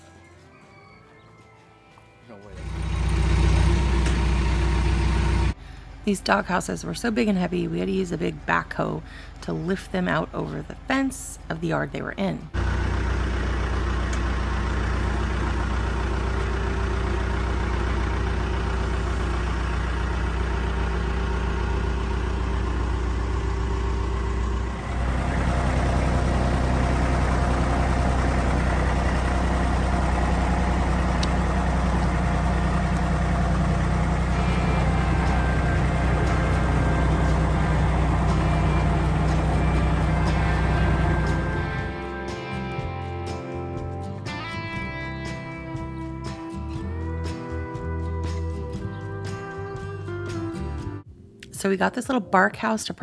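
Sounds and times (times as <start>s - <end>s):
backhoe engine running: 2.4s - 49.2s.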